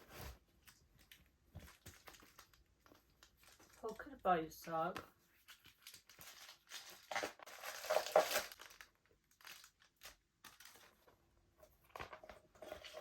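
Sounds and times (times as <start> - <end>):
packaging crinkling and rustling: 0.0 - 11.2.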